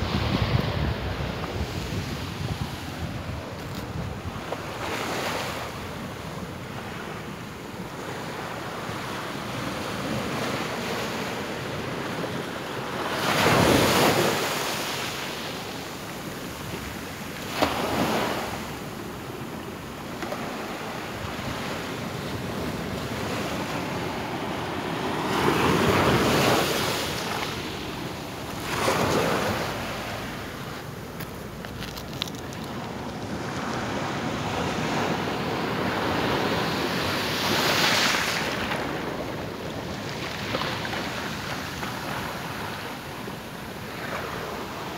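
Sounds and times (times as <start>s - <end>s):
surf crashing on rocks: 7.9s - 44.9s.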